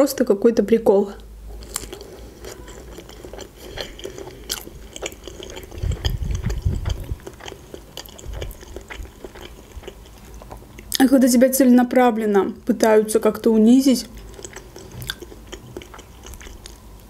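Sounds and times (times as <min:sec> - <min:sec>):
chewing sausage: 0:01.5 - 0:11.1, 0:12.7 - 0:17.0.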